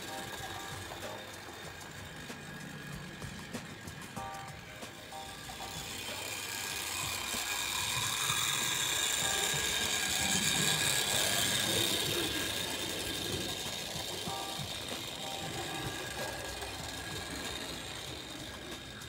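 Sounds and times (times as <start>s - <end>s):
model train motor whine: 0.0s - 19.0s
wheels rattling on rails: 0.0s - 19.0s.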